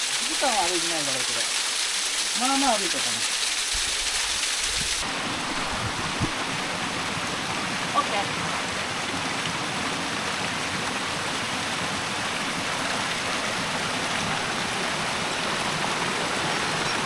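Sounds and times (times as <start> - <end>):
waterfall roaring: 0.0 - 3.3, 4.8 - 17.0.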